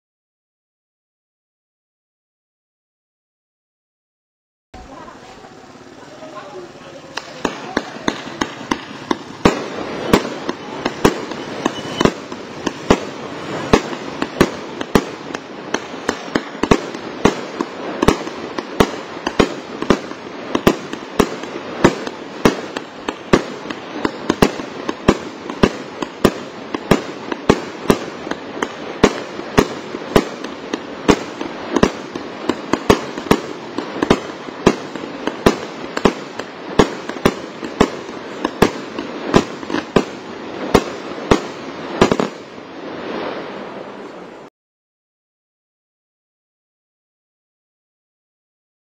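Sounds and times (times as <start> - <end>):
firework crackling: 4.8 - 44.5
firework sharp reports: 4.8 - 44.5.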